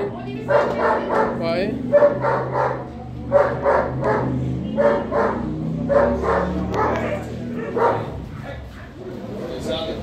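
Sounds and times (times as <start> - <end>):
dog barking: 0.5 - 9.1.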